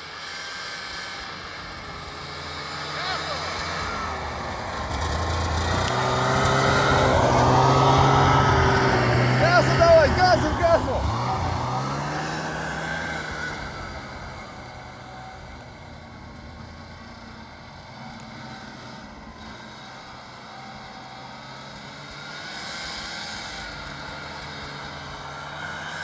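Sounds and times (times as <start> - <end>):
vehicle engine under throttle: 0.0 - 26.0.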